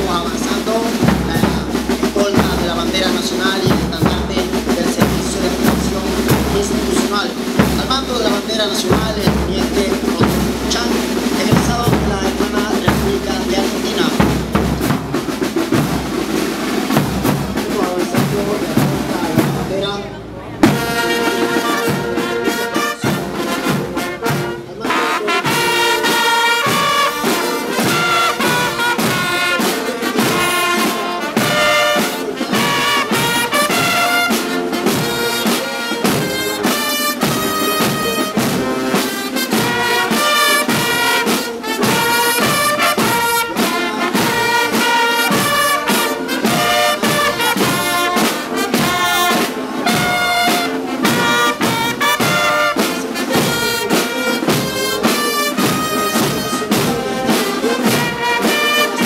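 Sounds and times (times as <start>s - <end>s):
marching drum beats: 0.0s - 59.0s
trumpets and trombones: 0.0s - 59.0s.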